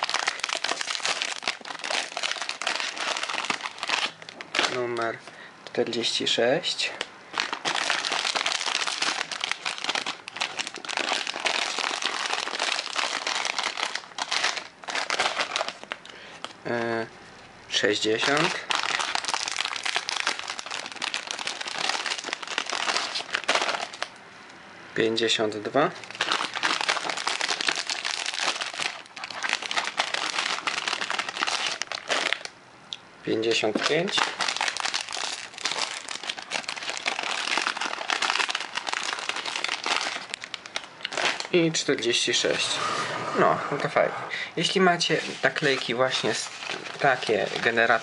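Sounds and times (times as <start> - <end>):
plastic wrapper crinkling: 0.0 - 17.0, 17.7 - 24.2, 25.9 - 32.6, 33.3 - 42.6, 44.6 - 48.0.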